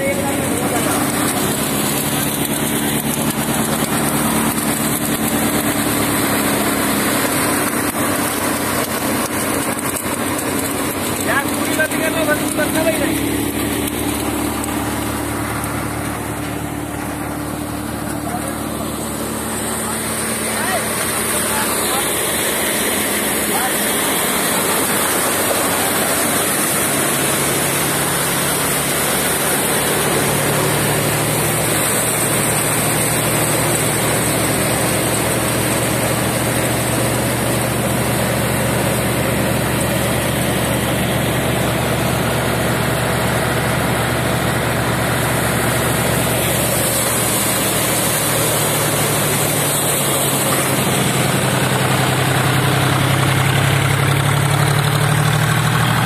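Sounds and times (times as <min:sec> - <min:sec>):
thresher drum and fans spinning: 0:00.0 - 0:56.0
tractor engine: 0:00.0 - 0:56.0.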